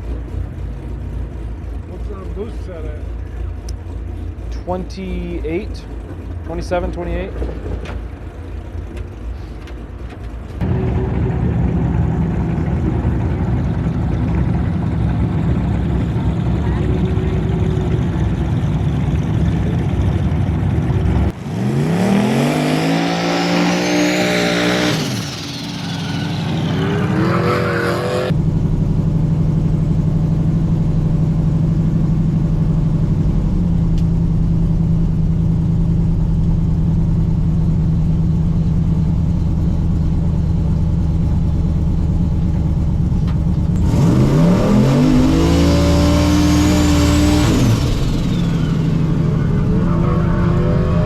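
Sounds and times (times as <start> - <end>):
truck engine accelerating hard: 0.0 - 51.0.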